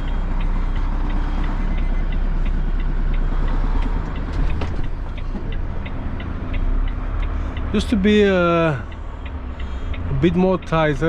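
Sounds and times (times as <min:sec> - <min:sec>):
diesel lorry engine at low revs: 0:00.0 - 0:11.0
light regular ticking: 0:00.0 - 0:11.0.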